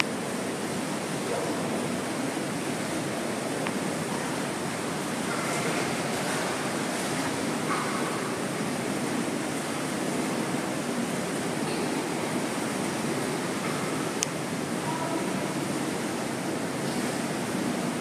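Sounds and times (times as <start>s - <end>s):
hot tub jets churning water: 0.0s - 18.0s.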